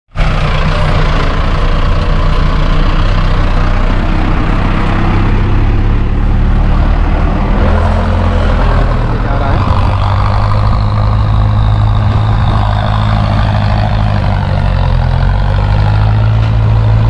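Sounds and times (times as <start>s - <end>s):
loud tractor diesel engine running: 0.1s - 17.0s.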